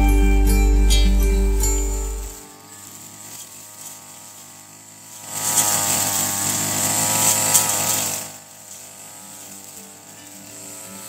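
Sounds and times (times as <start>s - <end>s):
brush cutter engine revving: 0.0s - 11.0s.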